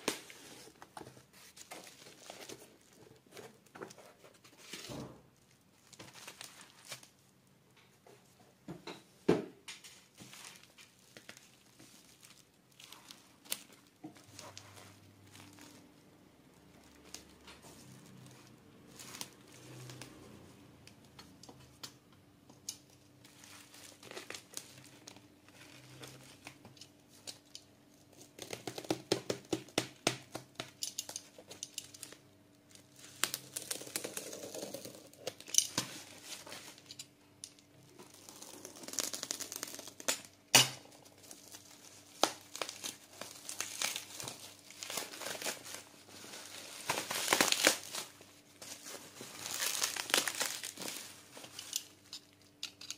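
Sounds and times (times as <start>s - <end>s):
bubble wrap crinkling and tearing: 0.0s - 7.4s, 9.9s - 20.6s, 22.8s - 37.0s, 37.6s - 52.9s.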